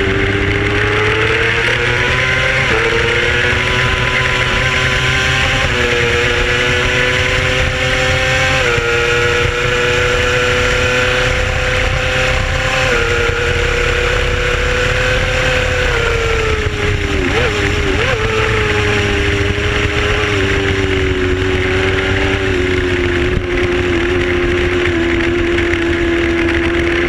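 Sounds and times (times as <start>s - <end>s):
heavy wind rush: 0.0s - 27.0s
race motorcycle engine at high revs: 0.0s - 27.0s.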